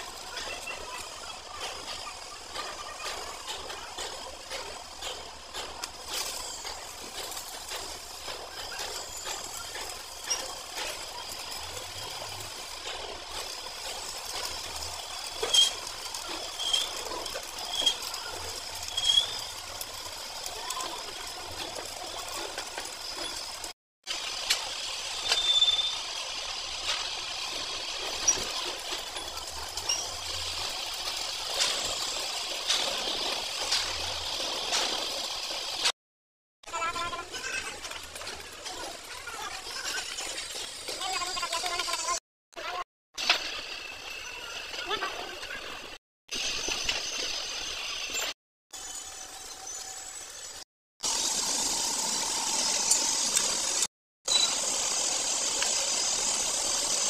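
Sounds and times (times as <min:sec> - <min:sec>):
arc welding crackling and sizzling: 0:00.0 - 0:36.0, 0:36.6 - 0:57.0.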